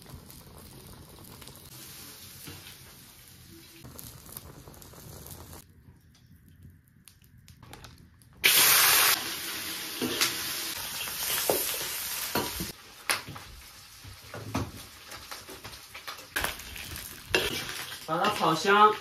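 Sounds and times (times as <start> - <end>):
meat sizzling in hot oil: 0.0 - 5.6, 8.4 - 19.0.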